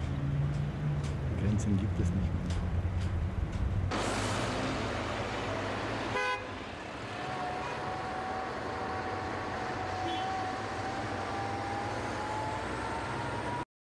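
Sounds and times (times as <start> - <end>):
traffic rumble: 0.0 - 13.6.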